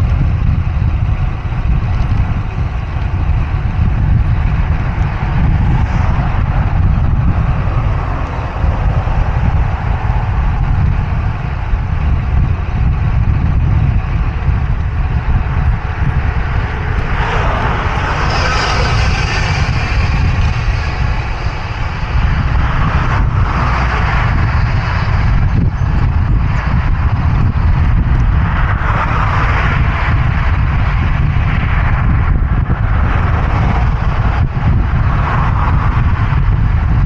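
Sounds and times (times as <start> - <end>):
vehicles passing at speed: 0.0 - 37.0
wind rumbling on microphone: 0.0 - 37.0.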